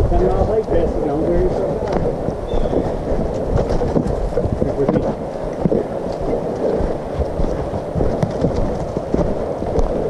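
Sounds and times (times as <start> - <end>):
footsteps in dry leaves: 0.0 - 10.0
knocks and rubbing on microphone: 1.8 - 10.0.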